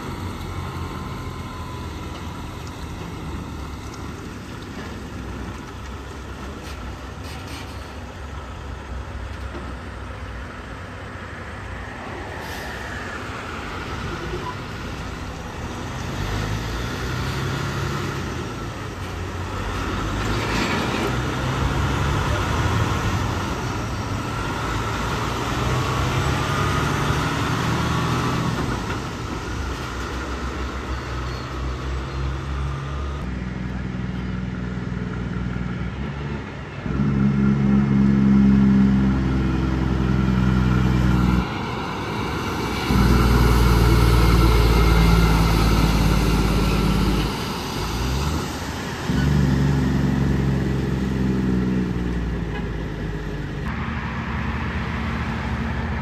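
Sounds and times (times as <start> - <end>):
road noise: 0.0 - 56.0
truck diesel engines: 0.0 - 56.0.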